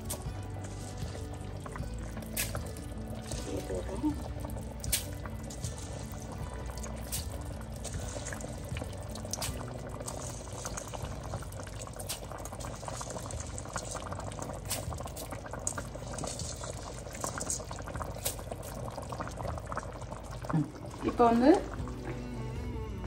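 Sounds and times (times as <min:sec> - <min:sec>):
thick gravy boiling and popping: 0:00.0 - 0:23.0.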